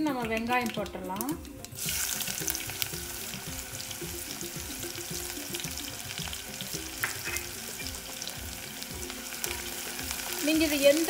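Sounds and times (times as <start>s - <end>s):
onion frying in oil: 0.0s - 11.0s.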